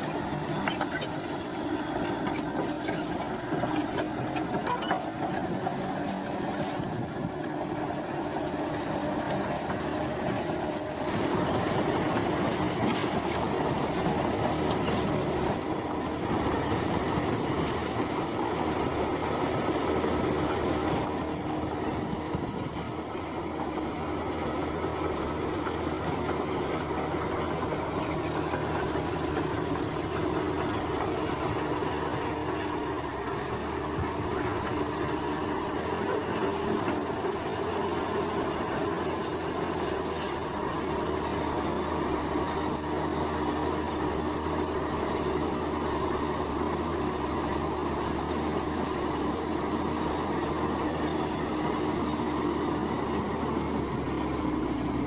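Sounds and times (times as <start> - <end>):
bulldozer engine running: 0.0 - 55.0
steel tracks squealing and clanking: 0.0 - 55.0.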